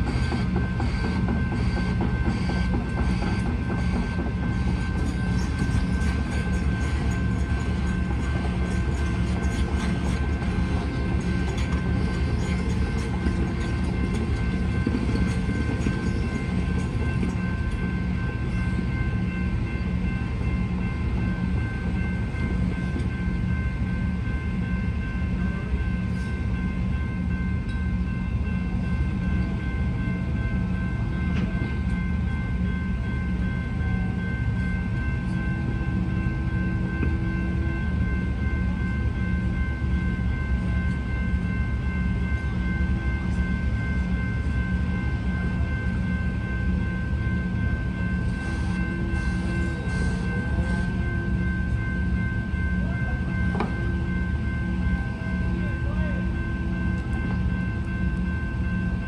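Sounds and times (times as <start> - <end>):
level crossing bell ringing: 6.2 - 59.0.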